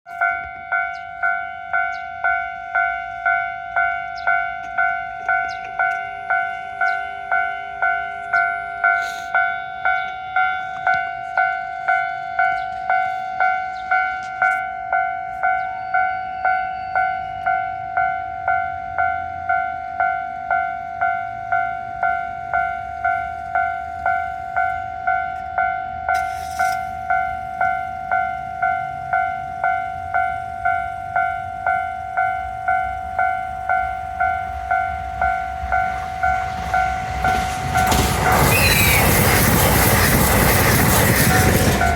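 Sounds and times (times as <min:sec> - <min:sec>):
level-crossing warning bell: 0:00.1 - 0:41.9.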